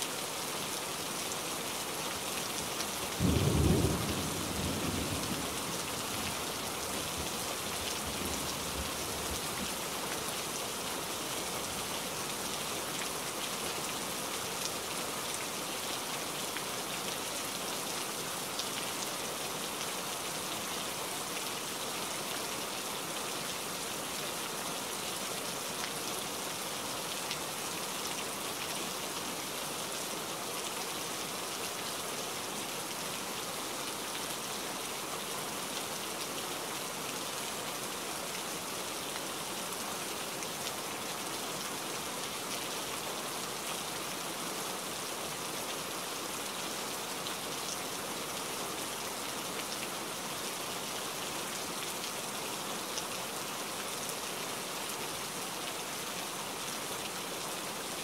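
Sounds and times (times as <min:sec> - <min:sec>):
rain on tree leaves: 0:00.0 - 0:58.0.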